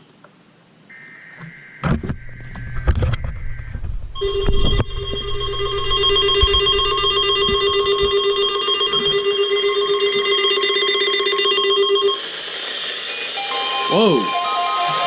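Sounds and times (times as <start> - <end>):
electronic alert tone with trill: 0.9 - 12.3, 13.1 - 15.0.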